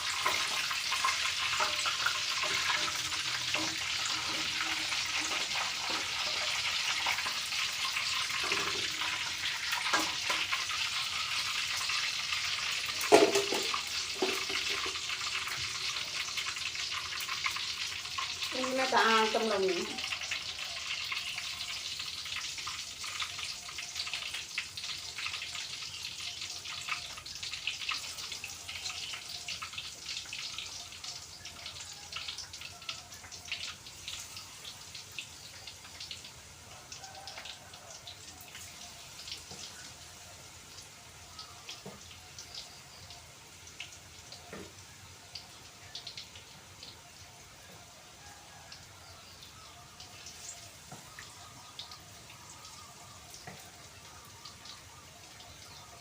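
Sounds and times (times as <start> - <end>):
hot oil sizzling in a frying pan: 0.0 - 56.0.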